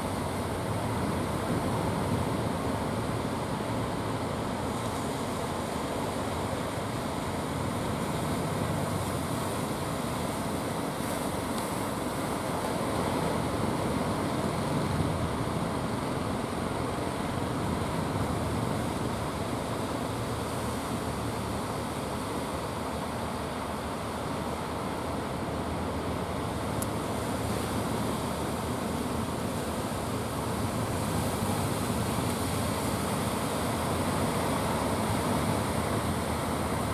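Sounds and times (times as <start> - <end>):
ocean surf waves breaking: 0.0 - 36.9.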